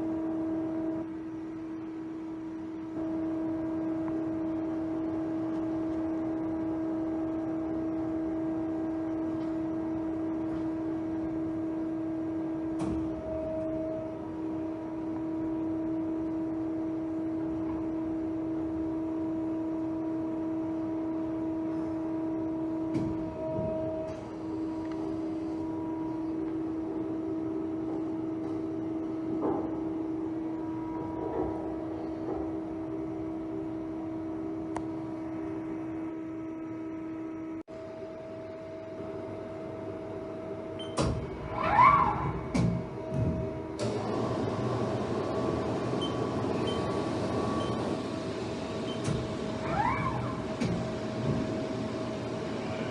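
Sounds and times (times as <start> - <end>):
lathe machine whine and hum: 0.0 - 52.9.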